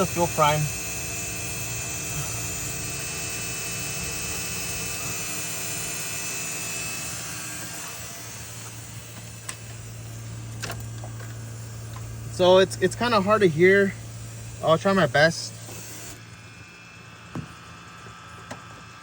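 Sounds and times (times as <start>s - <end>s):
fuel pump whirring: 0.0s - 19.0s
low steady hum: 0.0s - 19.0s.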